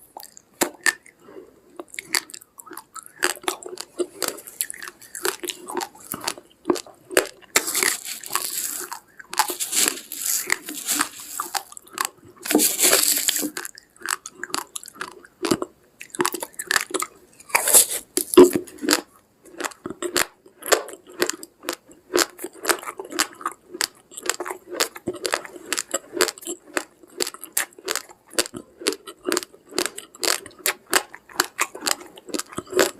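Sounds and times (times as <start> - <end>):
person chewing raw rice: 0.0 - 32.9.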